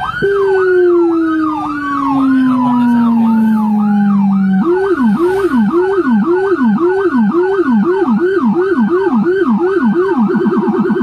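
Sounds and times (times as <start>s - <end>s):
electronic siren yelp: 0.0s - 11.0s
low-frequency siren: 0.0s - 11.0s.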